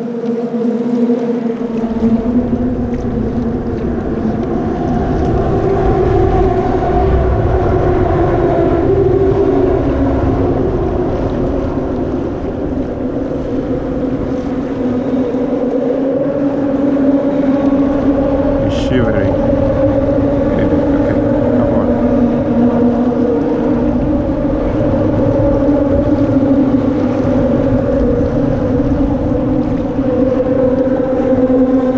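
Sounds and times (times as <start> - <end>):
boat motor droning: 0.0 - 31.9
wind rumbling on microphone: 0.0 - 31.9.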